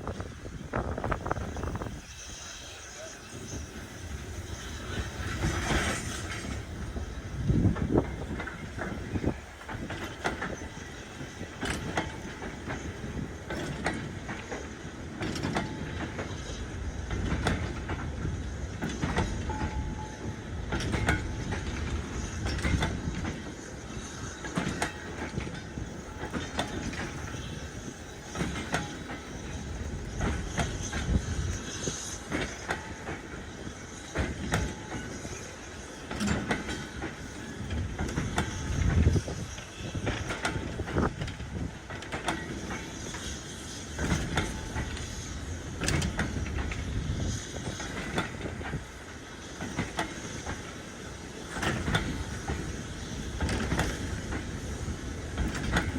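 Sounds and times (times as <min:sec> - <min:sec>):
train rumbling on track: 0:00.0 - 0:55.9
wheels clicking over rail joints: 0:04.8 - 0:55.9.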